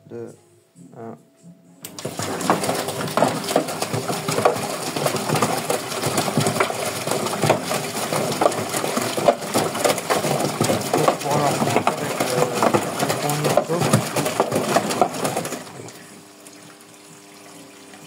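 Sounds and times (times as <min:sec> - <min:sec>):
washing machine sloshing water: 0:02.0 - 0:18.0.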